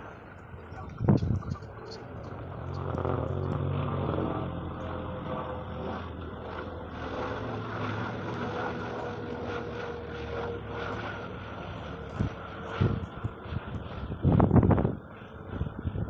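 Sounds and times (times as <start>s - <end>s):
engine-like drone: 0.0s - 16.0s.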